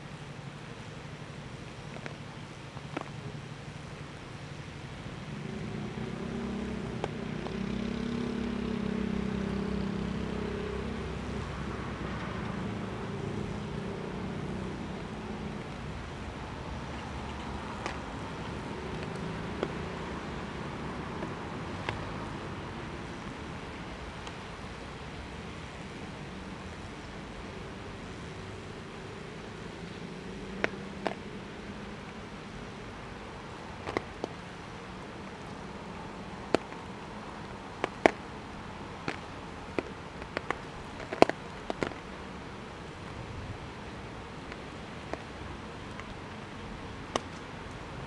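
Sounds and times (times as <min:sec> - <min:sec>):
steady hiss: 0:00.0 - 0:48.0
vehicle engine hum: 0:00.0 - 0:48.0.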